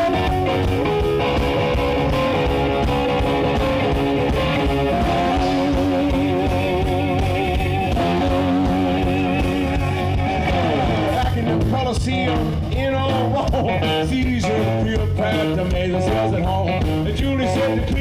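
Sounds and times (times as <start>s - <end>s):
bass and drums: 0.0s - 18.0s
electric guitar lead: 0.0s - 18.0s.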